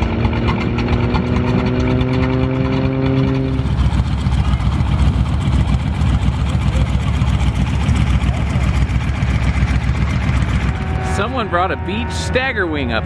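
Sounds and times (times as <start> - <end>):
piston engine running: 0.0 - 13.0
pitched hum: 0.0 - 13.0.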